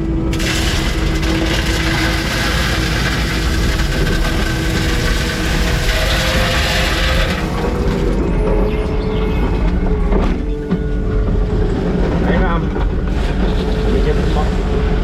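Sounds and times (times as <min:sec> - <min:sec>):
diesel engine running: 0:00.0 - 0:15.0
track clatter: 0:00.0 - 0:15.0.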